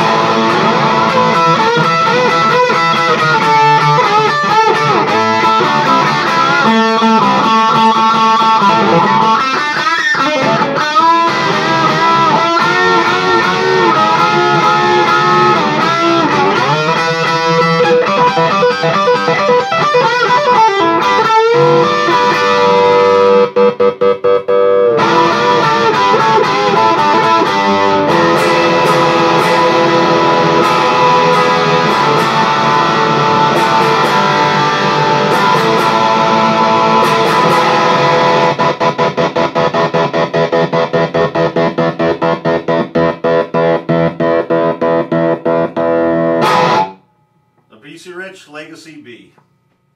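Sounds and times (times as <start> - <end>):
overdriven electric guitar lead: 0.0 - 47.7.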